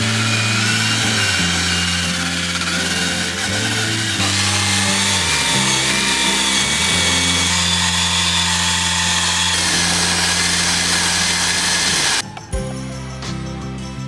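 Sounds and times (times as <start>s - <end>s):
wire brush scouring wood: 0.0s - 12.2s
drill motor hum: 0.0s - 12.5s.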